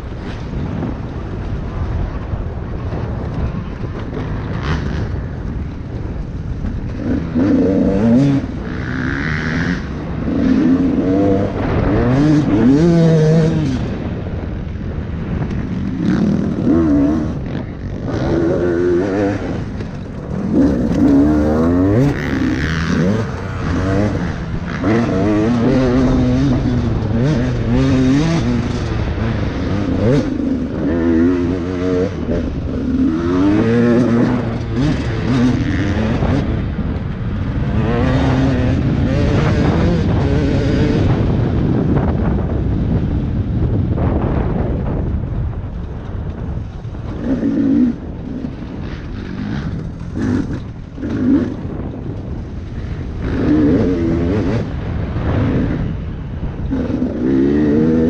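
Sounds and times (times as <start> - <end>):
dirt bike engine revving: 0.2 - 41.8, 46.7 - 58.0.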